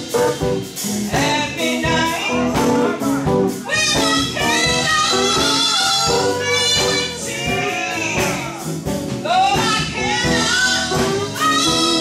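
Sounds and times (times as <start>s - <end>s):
gospel band playing: 0.0s - 12.0s
woman singing: 1.0s - 8.6s, 9.2s - 12.0s.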